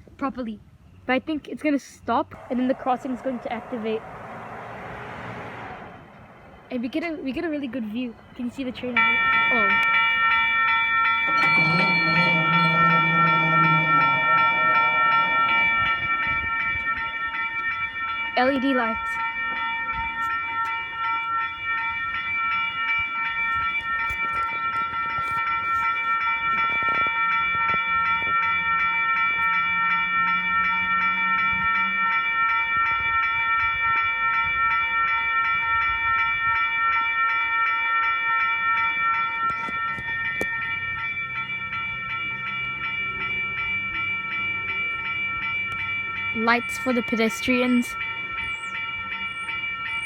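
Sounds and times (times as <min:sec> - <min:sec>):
level crossing bells ringing: 0:02.2 - 0:50.0.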